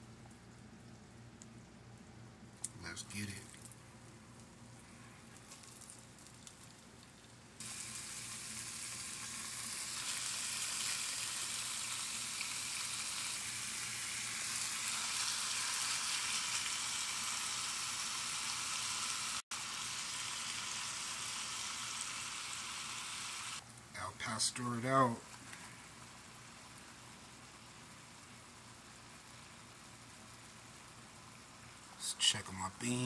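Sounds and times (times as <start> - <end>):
meat frying sizzle: 3.2 - 23.9, 24.9 - 32.0.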